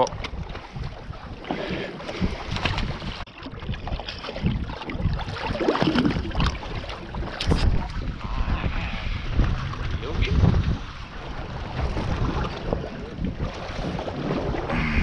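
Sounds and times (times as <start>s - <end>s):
water splashing around boat: 0.0s - 15.0s
wind buffeting microphone: 0.0s - 15.0s.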